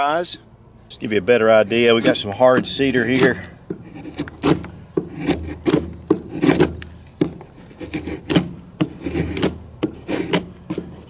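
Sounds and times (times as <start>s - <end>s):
knife shaving wood: 1.7s - 11.0s.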